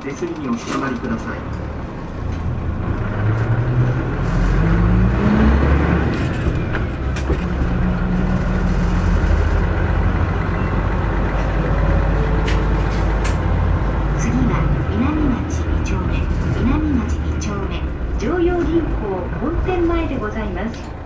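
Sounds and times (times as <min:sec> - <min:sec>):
bus diesel engine revving: 0:00.0 - 0:21.0.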